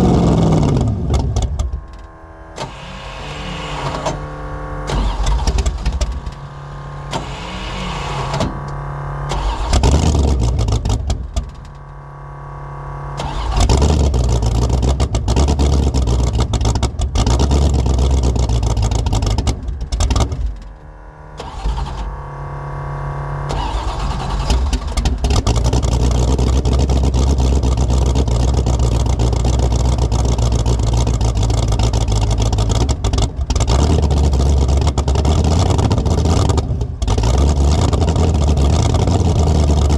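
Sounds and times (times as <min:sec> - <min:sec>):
car engine running unevenly: 0:00.0 - 0:39.9
engine throttle blips: 0:00.0 - 0:39.9.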